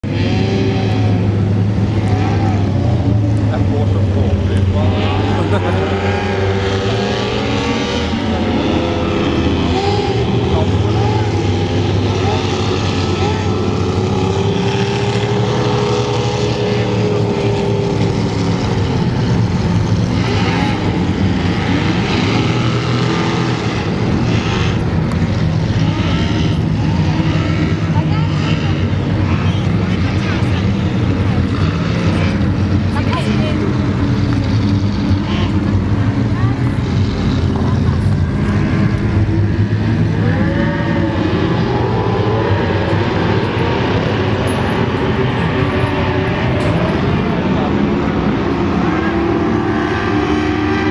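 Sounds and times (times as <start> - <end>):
powerboat engines droning: 0.0 - 50.9
wind: 0.0 - 50.9.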